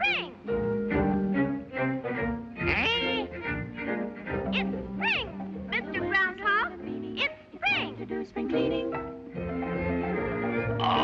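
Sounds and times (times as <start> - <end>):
orchestral strings: 0.0 - 11.0.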